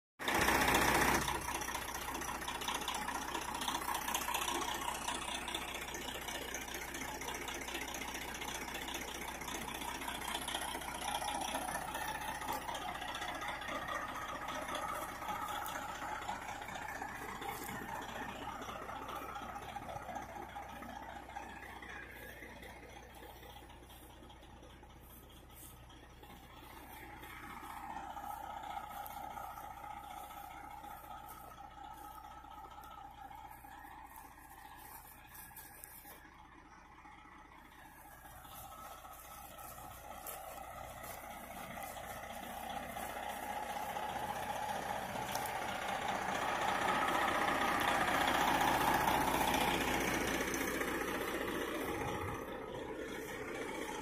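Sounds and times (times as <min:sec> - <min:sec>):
motorhome engine driving past: 0:00.2 - 0:54.0.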